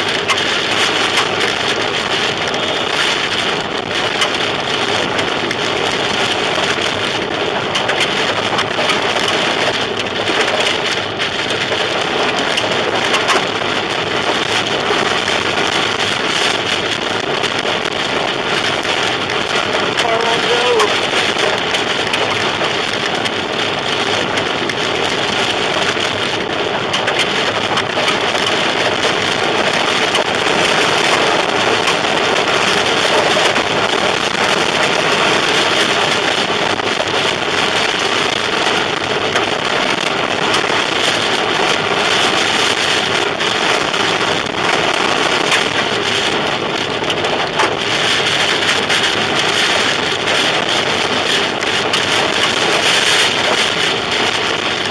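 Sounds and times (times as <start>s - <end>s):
roar of wind and rain: 0.0s - 54.9s.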